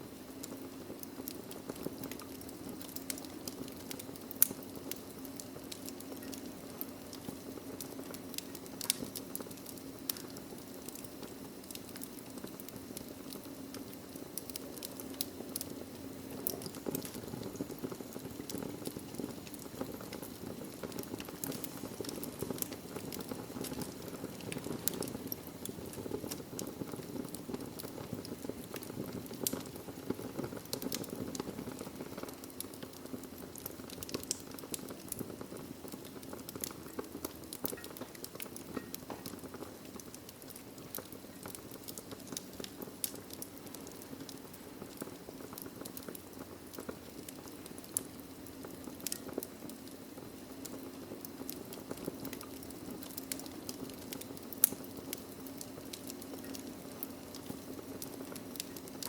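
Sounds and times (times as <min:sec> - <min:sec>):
logs crackling and popping: 0:00.0 - 0:59.0
fire flames rushing: 0:00.5 - 0:49.6, 0:50.2 - 0:59.0.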